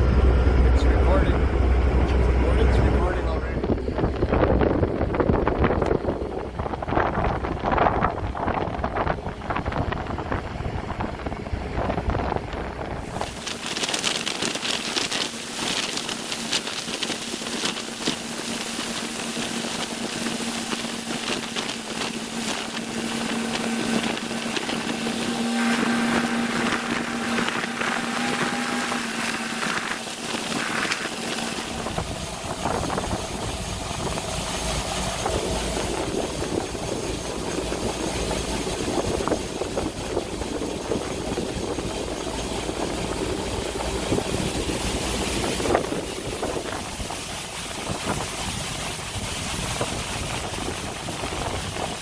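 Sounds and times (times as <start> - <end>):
combine harvester running: 0.0 - 52.0
deep low rumble: 0.0 - 52.0.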